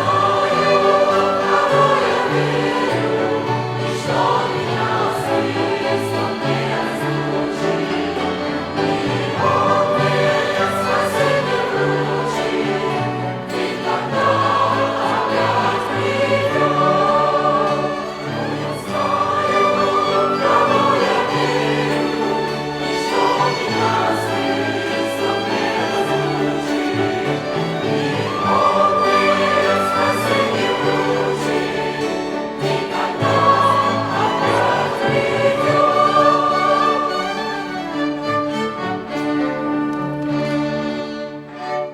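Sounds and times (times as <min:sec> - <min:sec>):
choir singing a hymn: 0:00.0 - 0:41.9
violin ensemble: 0:00.0 - 0:41.9.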